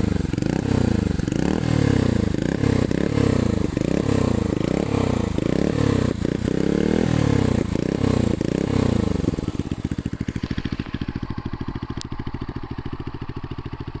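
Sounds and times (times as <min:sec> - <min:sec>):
motorcycle engine blipping and idling: 0:00.0 - 0:14.0.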